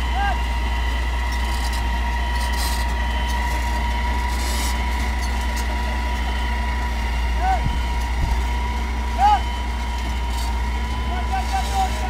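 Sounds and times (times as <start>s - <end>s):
diesel engine hum with high whine: 0.0s - 12.0s.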